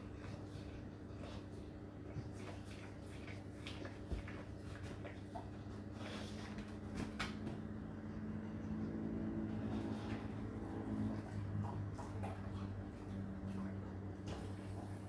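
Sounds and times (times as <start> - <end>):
dishwasher pump and motor hum: 0.0 - 15.0.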